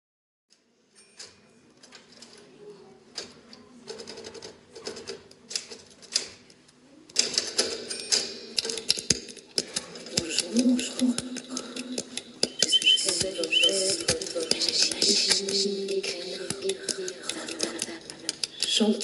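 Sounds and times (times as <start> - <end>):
mechanical clicking and clacking: 3.2 - 19.0.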